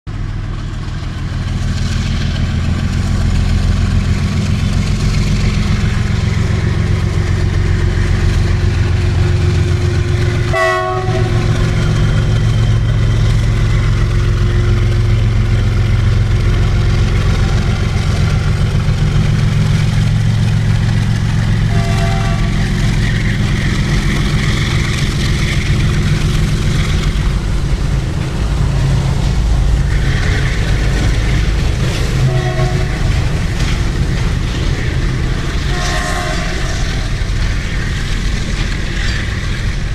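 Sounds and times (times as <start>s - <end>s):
diesel locomotive engine drone: 0.1s - 39.9s.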